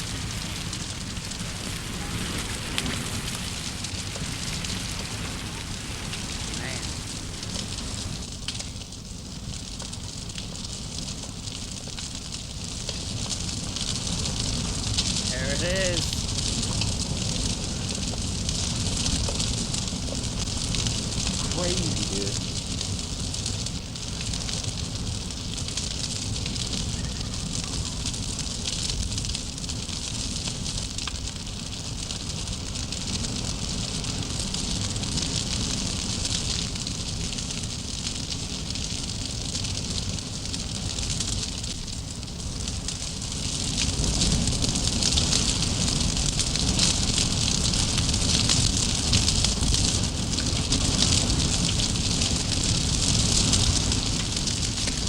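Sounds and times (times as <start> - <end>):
large wood fire crackling: 0.0 - 55.0.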